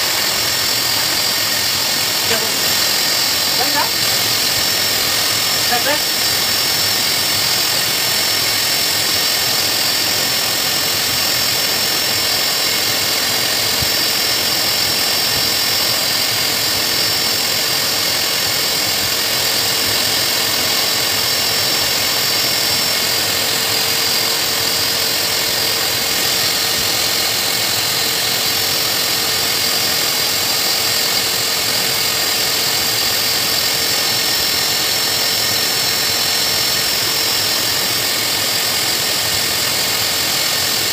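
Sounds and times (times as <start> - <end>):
pet blow dryer whining: 0.0 - 40.9.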